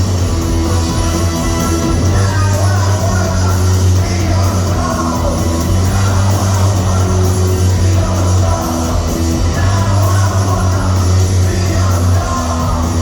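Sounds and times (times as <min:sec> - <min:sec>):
heavy bass line: 0:00.0 - 0:13.0
rock band playing live: 0:00.0 - 0:13.0
person singing: 0:00.8 - 0:13.0.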